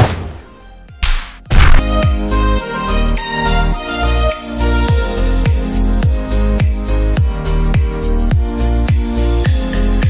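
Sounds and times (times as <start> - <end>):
instrumental music with steady beat: 0.5 - 10.0.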